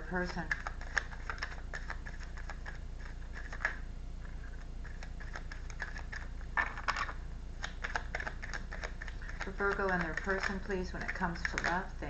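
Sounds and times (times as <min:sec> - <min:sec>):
low hum: 0:00.0 - 0:12.0
cards being shuffled: 0:00.4 - 0:11.9.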